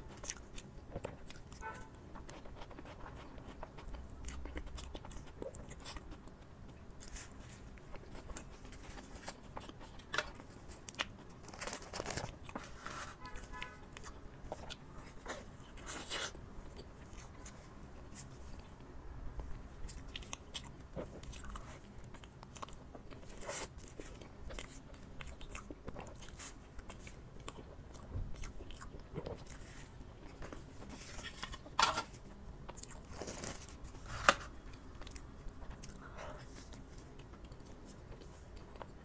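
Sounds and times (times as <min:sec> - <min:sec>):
person chewing soft food: 0:00.0 - 0:39.0.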